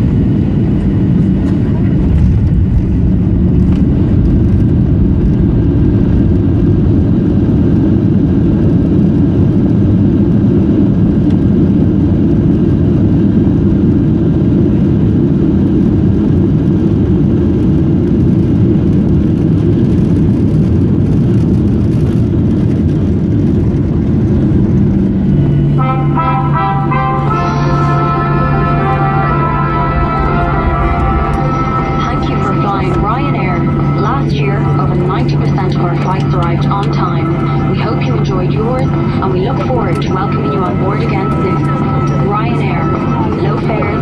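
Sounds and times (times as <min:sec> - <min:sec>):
deep rumble of jet engines: 0:00.0 - 0:44.0.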